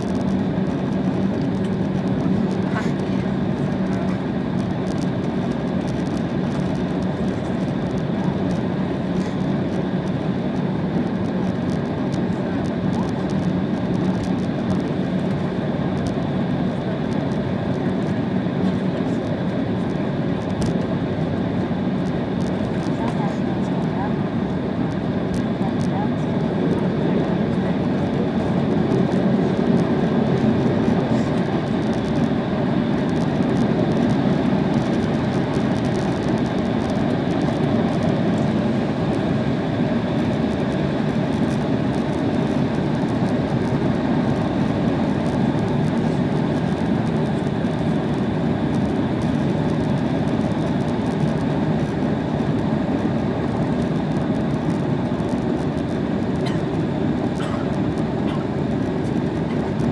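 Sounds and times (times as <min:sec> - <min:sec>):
airliner rolling rumble: 0:00.0 - 0:59.9
jet engines at taxi power: 0:00.0 - 0:59.9.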